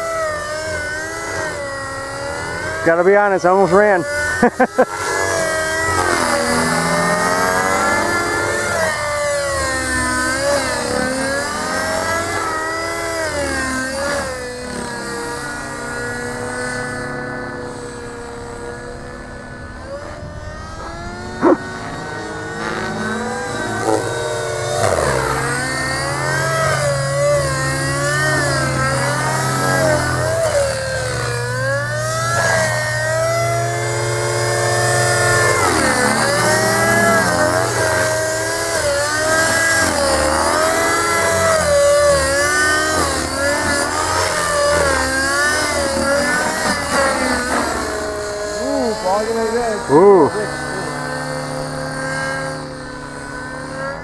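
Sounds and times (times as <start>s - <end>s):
model helicopter rotors whining: 0.0s - 54.0s.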